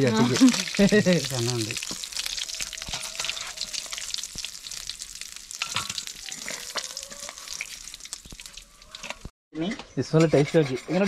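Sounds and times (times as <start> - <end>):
fish frying in hot oil: 0.0 - 9.3.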